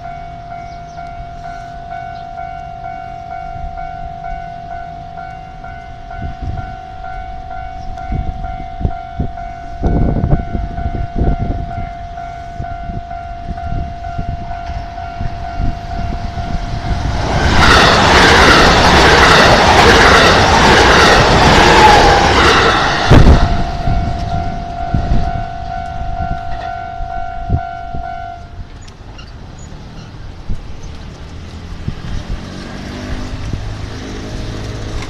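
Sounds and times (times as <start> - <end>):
level crossing alarm tone: 0.0 - 28.6
train rushing past: 0.0 - 35.0.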